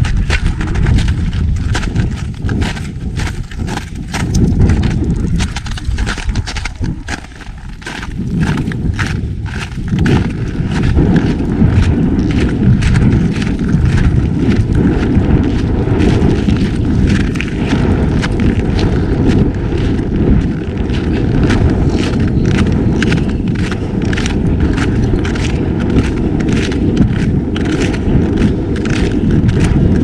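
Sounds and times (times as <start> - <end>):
footsteps crunching in snow: 0.0 - 30.0
wind rumbling on microphone: 0.0 - 30.0.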